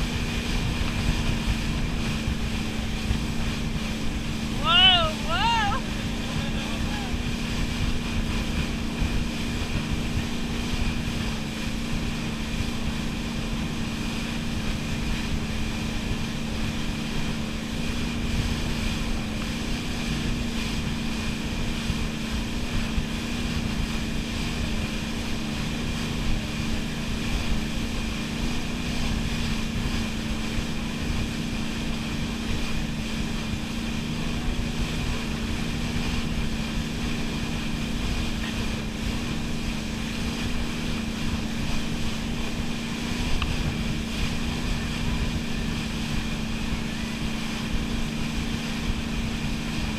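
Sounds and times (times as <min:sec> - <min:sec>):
boat engine droning: 0:00.0 - 0:49.9
rush of boat wake: 0:00.0 - 0:49.9
wind on microphone: 0:00.0 - 0:49.9.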